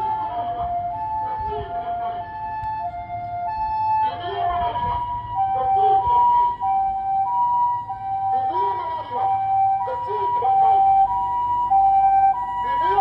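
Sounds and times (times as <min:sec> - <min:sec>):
two-tone ambulance siren: 0:00.0 - 0:13.0.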